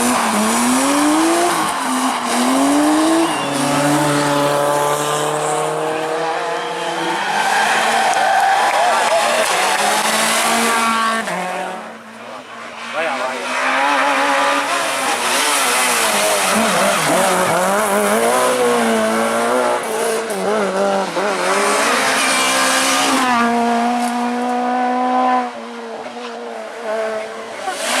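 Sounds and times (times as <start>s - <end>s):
rally car engine at full throttle: 0.0s - 28.0s.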